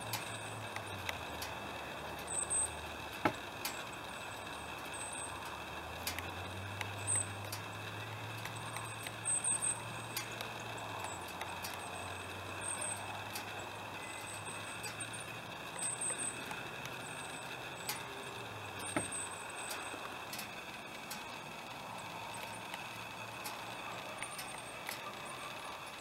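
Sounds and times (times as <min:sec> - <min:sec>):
high whining tones: 0:00.0 - 0:26.0
lens stabilizer motor hum: 0:00.0 - 0:26.0
light ticks: 0:00.0 - 0:26.0
very high-pitched bursts: 0:00.0 - 0:26.0.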